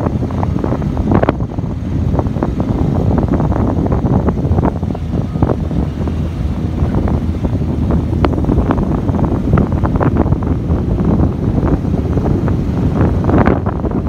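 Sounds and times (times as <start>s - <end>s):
engine and road noise: 0.0s - 14.0s
wind buffeting microphone: 0.0s - 14.0s.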